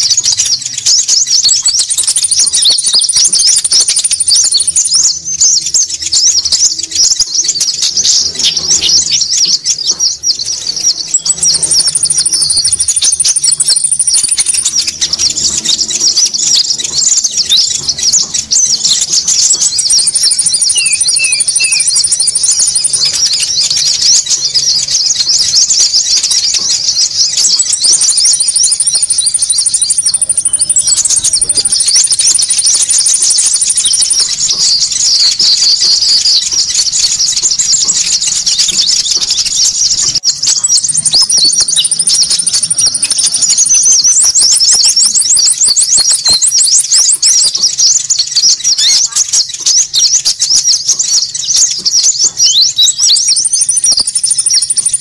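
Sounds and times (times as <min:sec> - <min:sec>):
chorus of chirping birds: 0:00.0 - 0:55.0.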